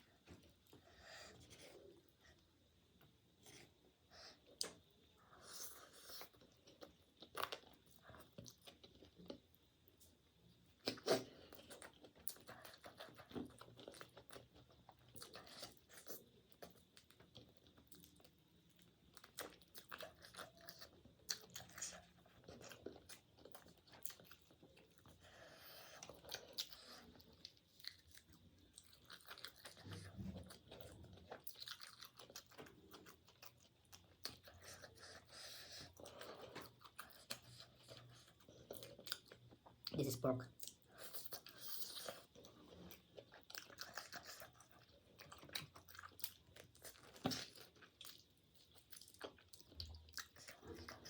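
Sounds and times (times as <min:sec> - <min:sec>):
person chewing and crunching food: 0:00.0 - 0:51.0.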